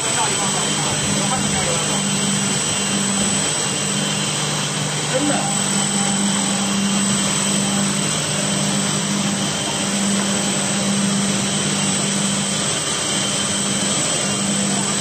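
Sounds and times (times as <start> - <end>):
machine running with low hum: 0.0 - 15.0.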